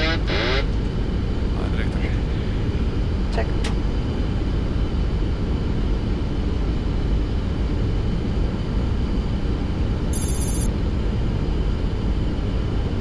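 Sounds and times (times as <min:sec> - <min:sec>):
low rumble of airflow and engines: 0:00.0 - 0:13.0.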